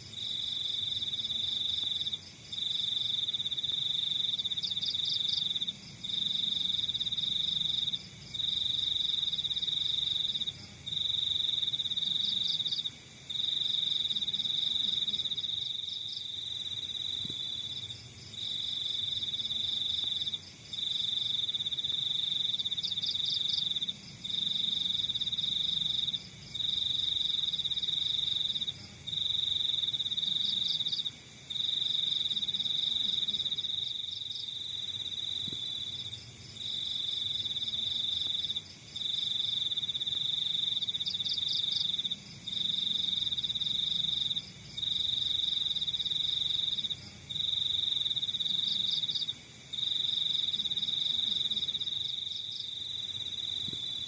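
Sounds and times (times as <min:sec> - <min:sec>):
cricket trilling: 0:00.0 - 0:54.0
pulsing insect chorus: 0:00.0 - 0:54.0.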